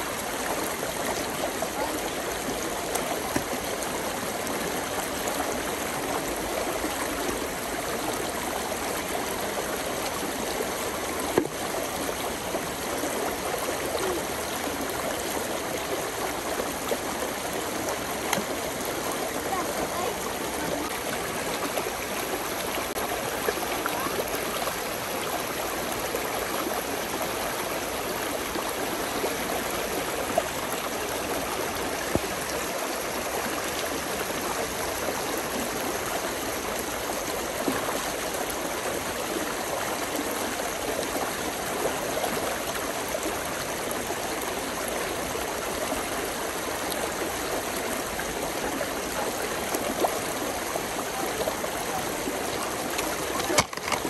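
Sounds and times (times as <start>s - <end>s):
brook babbling: 0.0s - 54.0s
water splashes: 0.0s - 54.0s.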